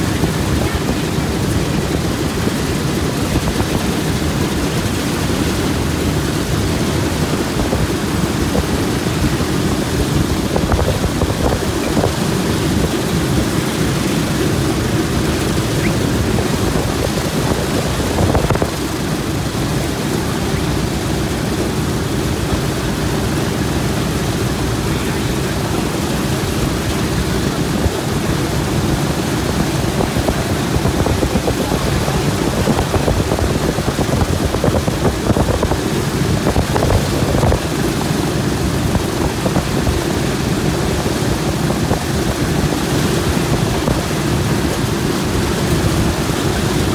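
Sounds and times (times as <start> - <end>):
propeller wash: 0.0 - 46.9
radial aircraft engines idling: 0.0 - 46.9.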